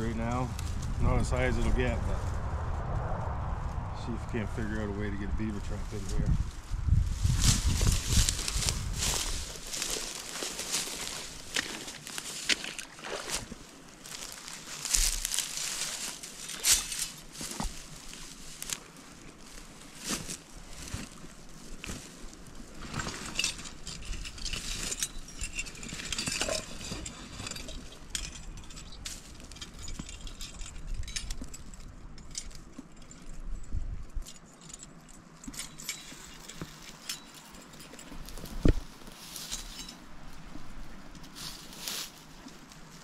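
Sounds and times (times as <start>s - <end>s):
gear rustling and clinking: 7.2s - 43.0s.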